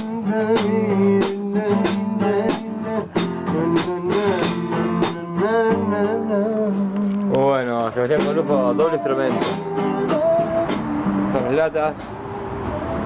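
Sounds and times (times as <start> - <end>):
strummed guitar with bending notes: 0.0 - 12.2.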